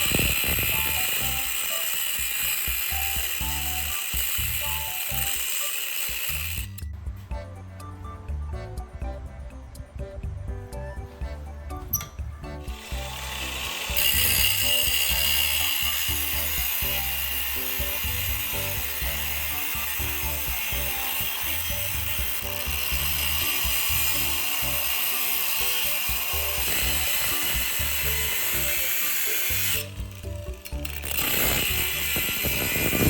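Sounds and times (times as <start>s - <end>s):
angle grinder on steel: 0.0s - 6.9s, 12.0s - 33.0s
background music: 0.0s - 33.0s.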